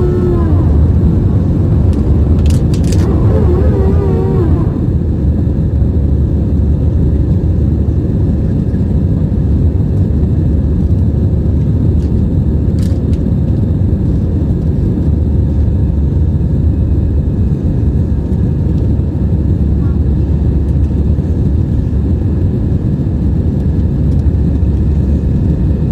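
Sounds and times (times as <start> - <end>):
airliner cabin engine roar: 0.0 - 25.9.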